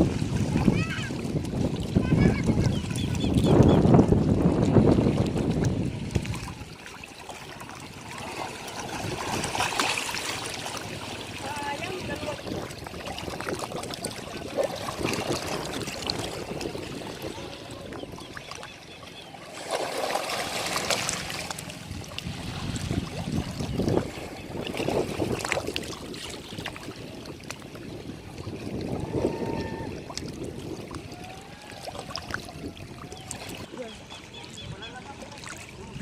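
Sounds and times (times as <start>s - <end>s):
sea waves washing onto beach: 0.0s - 18.7s, 19.4s - 36.0s.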